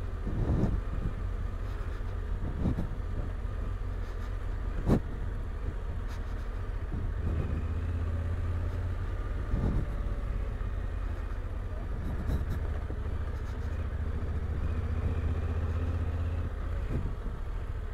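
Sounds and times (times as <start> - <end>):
motorcycle engine at low revs: 0.0 - 17.9.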